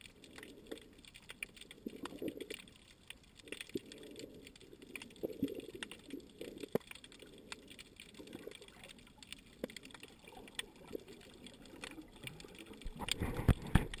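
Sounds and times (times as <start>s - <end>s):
sharp clicks and crackles: 0.0s - 14.0s
underwater wash of water: 0.0s - 14.0s.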